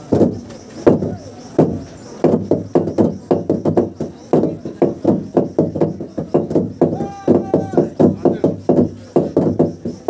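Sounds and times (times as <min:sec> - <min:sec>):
fast overlapping log drum strikes: 0:00.0 - 0:10.0
log drum hollow wooden knocks: 0:00.0 - 0:10.0.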